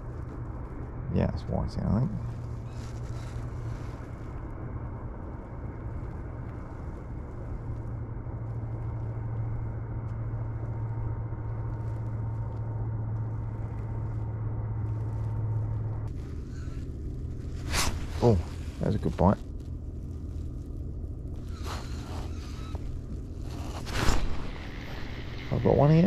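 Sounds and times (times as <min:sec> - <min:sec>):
boat engine droning: 0:01.7 - 0:26.0.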